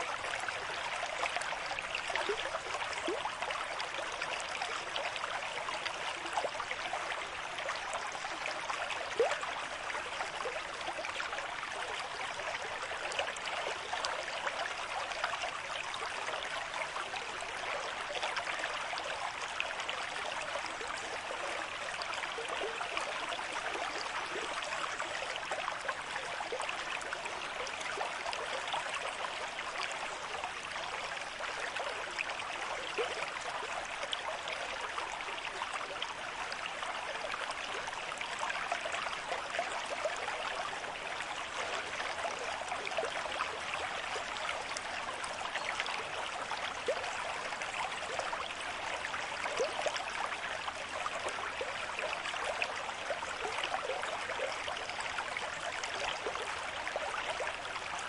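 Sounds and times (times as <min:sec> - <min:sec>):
river stream flowing: 0:00.0 - 0:58.0.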